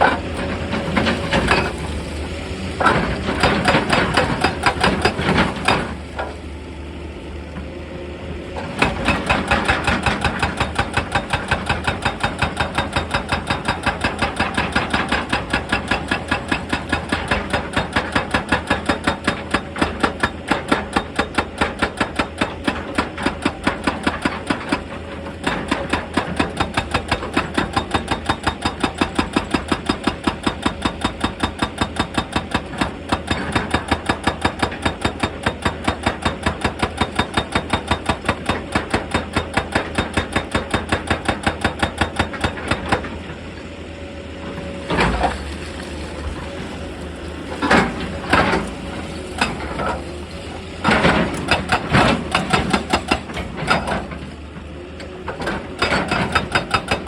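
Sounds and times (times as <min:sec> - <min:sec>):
hydraulic breaker hammering rock: 0:00.0 - 0:02.2, 0:02.8 - 0:06.4, 0:08.6 - 0:43.4, 0:44.5 - 0:45.6, 0:47.5 - 0:54.4, 0:55.0 - 0:57.0.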